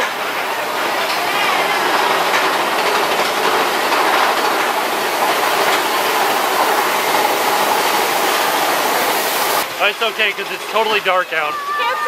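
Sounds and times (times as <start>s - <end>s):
roller coaster wheels clattering on rail: 0.0s - 12.0s.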